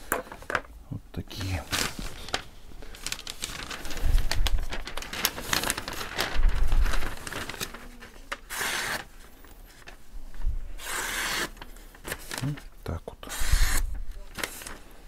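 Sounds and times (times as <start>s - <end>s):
newspaper rustling: 1.3s - 15.0s.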